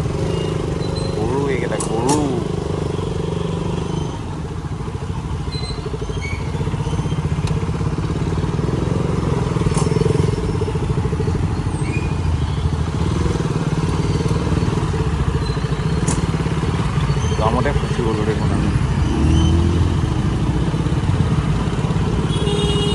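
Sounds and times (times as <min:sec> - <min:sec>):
motorcycle engine running at low speed: 0:00.0 - 0:22.9.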